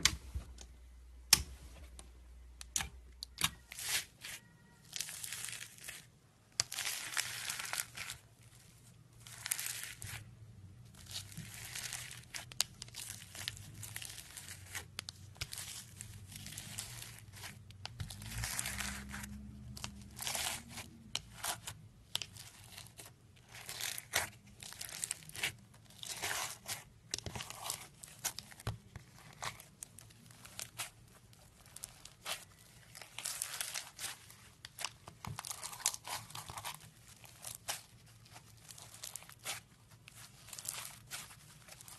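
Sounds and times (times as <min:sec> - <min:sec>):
slime crackling and crunching: 0:02.6 - 0:41.9.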